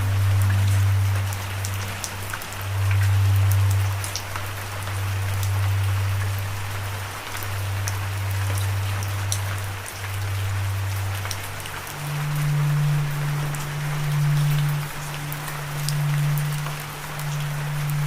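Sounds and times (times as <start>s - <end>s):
low musical drone: 0.0s - 18.0s
steady rain falling: 0.0s - 18.0s.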